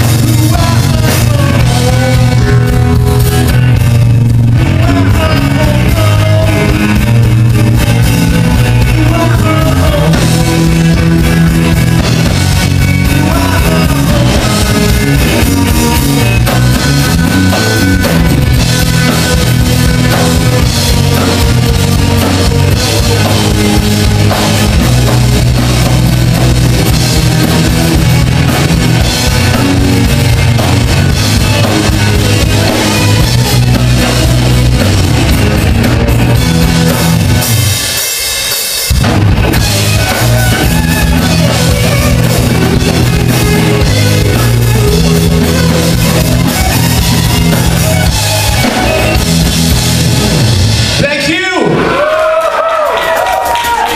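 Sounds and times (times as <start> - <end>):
drum kit: 0.0 - 53.9
electric and acoustic guitars: 0.0 - 53.9
electric bass: 0.0 - 53.9.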